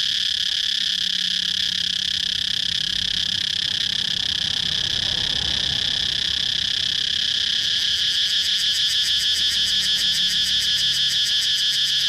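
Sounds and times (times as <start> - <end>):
cicadas buzzing: 0.0 - 12.0
fast pulsing insect call: 0.0 - 12.0.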